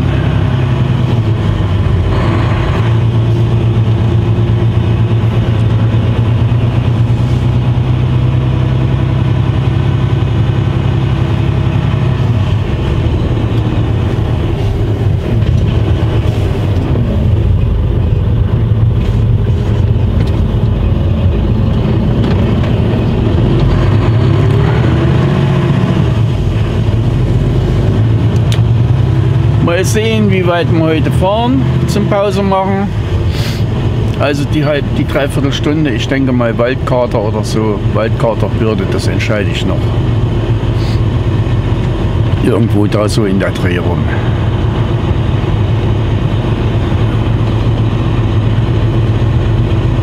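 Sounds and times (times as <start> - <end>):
truck diesel engine changing gear: 0.0 - 50.0.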